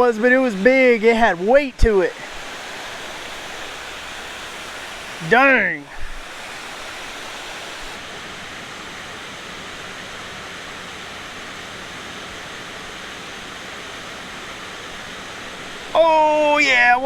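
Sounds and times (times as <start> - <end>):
river water pouring over spillway: 0.0 - 17.0.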